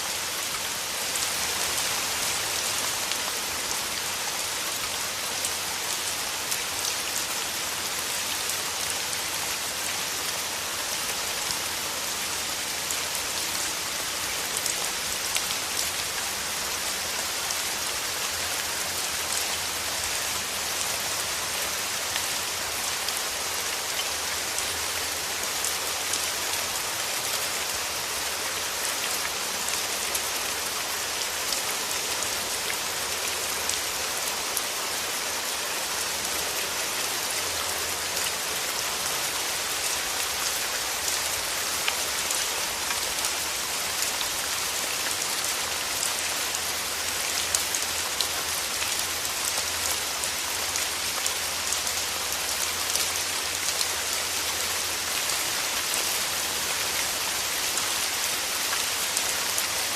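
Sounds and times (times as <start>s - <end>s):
rain falling through trees: 0.0s - 59.9s.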